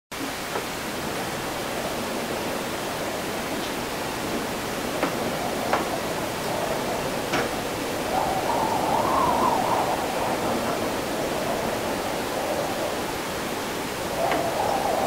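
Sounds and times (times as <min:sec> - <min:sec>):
wavering wind howl: 0:00.2 - 0:15.0
wind noise hiss: 0:00.2 - 0:15.0.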